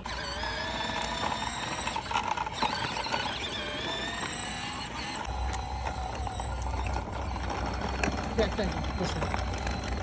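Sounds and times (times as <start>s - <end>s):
small dirt bike motor whining: 0.0s - 10.0s.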